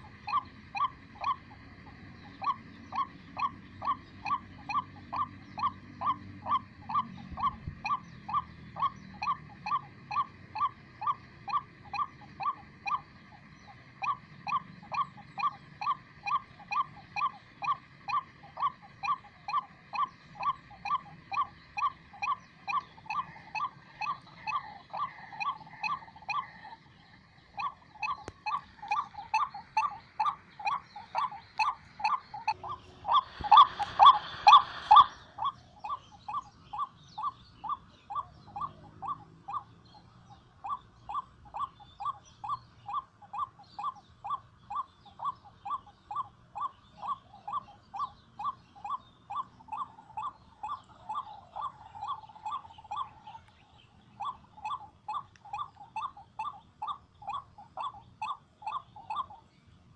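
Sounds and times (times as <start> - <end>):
waterhen calling: 0.0 - 59.5.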